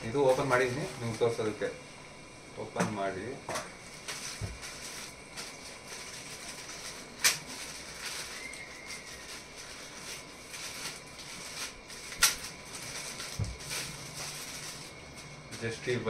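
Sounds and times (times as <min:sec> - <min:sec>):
packaging rustling and scraping: 0:00.0 - 0:01.5, 0:03.8 - 0:16.0.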